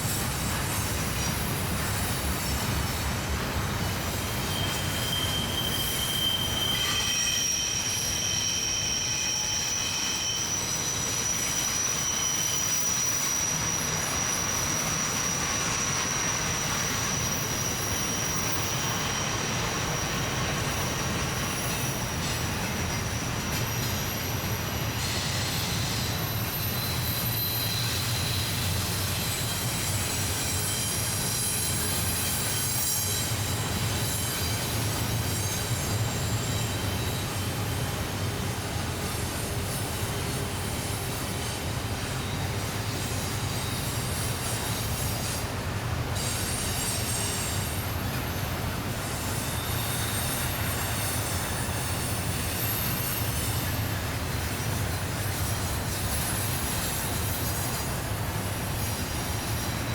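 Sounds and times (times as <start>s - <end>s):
train wheels squealing on rails: 0.0s - 59.9s.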